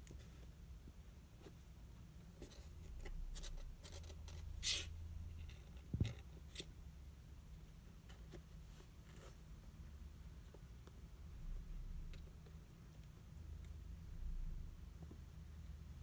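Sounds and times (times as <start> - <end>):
faint scratching and rustling: 1.3 - 6.8, 7.6 - 15.3.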